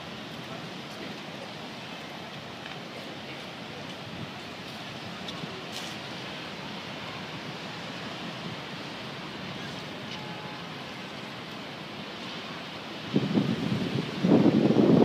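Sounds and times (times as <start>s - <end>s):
outdoor ambient noise: 0.0s - 15.0s.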